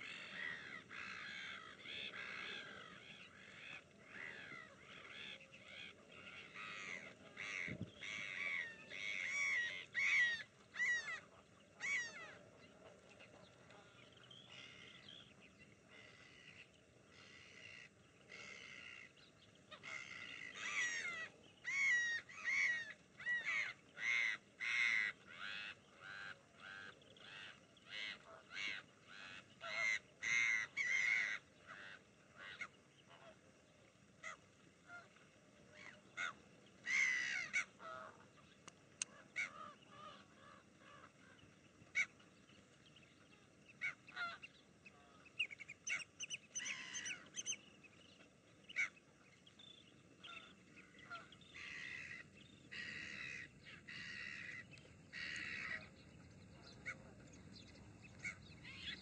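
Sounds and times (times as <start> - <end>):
gulls calling: 0.0 - 59.0.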